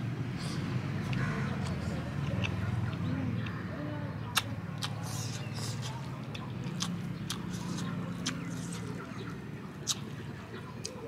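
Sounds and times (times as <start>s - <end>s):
chewing with wet lip smacks: 1.0s - 3.6s, 4.3s - 11.0s.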